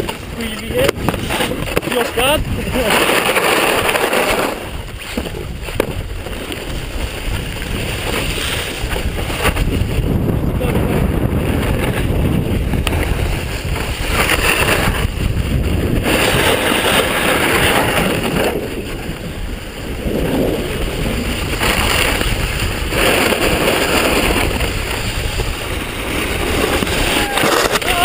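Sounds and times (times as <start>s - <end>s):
snowboard sliding over snow: 0.0s - 28.0s
wind rushing over microphone: 0.0s - 28.0s.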